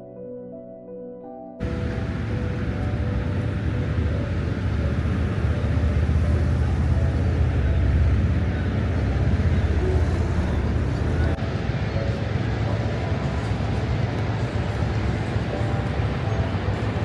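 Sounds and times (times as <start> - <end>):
rushing outdoor noise with rumble: 1.6 - 17.0.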